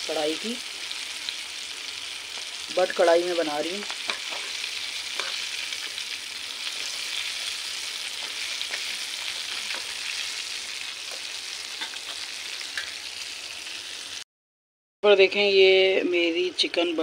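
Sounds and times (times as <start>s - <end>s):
chicken deep-frying in oil: 0.0s - 14.2s.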